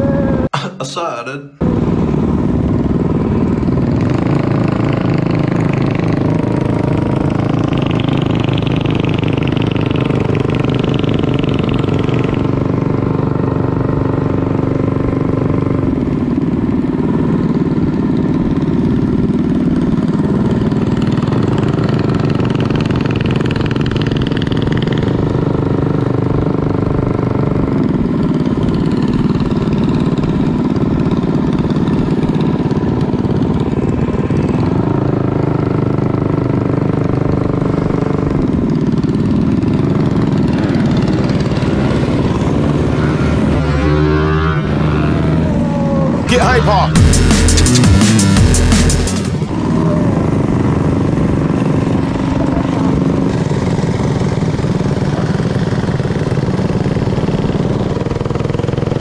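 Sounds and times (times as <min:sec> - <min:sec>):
minibike engine running: 0:01.6 - 0:46.3, 0:49.3 - 0:59.0.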